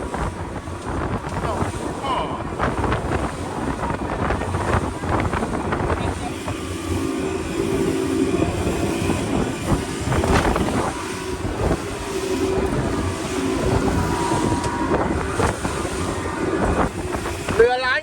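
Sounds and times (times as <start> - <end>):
motorboat engine running: 0.0 - 18.0
water rushing past: 0.0 - 18.0
wind rushing: 0.0 - 18.0.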